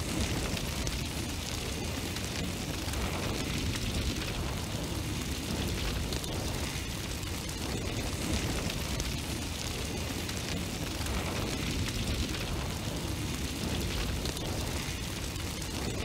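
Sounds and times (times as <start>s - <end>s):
fire burning: 0.0s - 16.0s.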